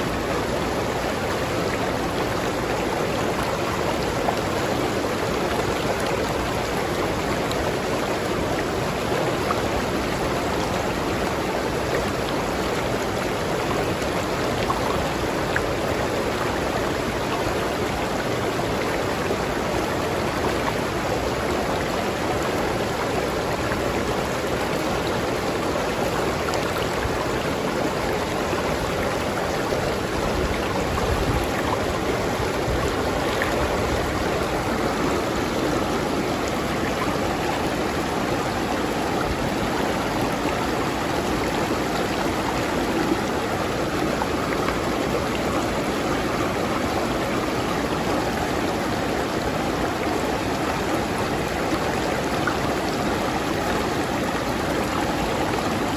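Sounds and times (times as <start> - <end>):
river flowing over rocks: 0.0 - 55.9.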